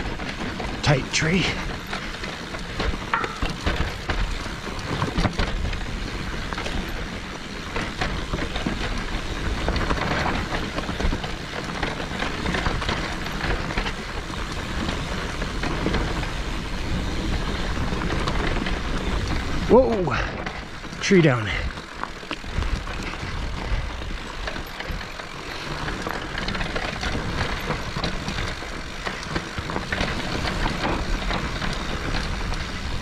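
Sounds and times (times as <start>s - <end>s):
bike clicks and knocks: 0.0s - 0.8s, 1.6s - 33.0s
bike tyres crunching on dirt: 0.0s - 33.0s.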